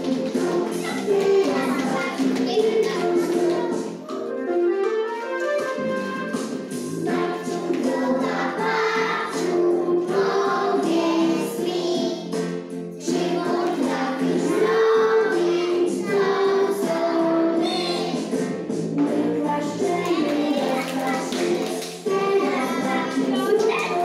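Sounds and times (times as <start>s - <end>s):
children singing: 0.0s - 4.1s, 6.9s - 12.4s, 13.0s - 18.4s, 19.1s - 24.0s
instrumental accompaniment: 0.0s - 24.0s.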